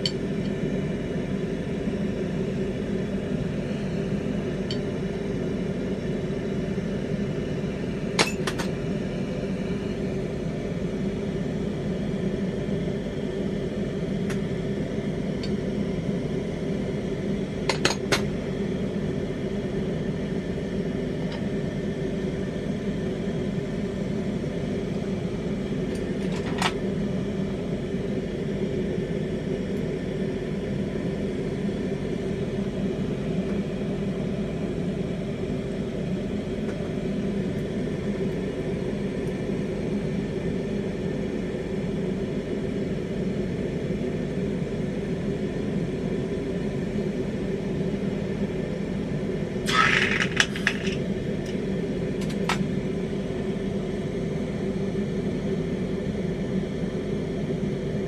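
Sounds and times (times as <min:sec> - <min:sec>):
torch flame rumble: 0:00.0 - 0:42.8, 0:46.1 - 0:55.0.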